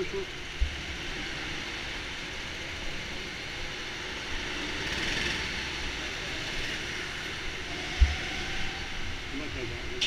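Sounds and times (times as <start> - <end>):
go-kart engines droning: 0.0 - 10.0.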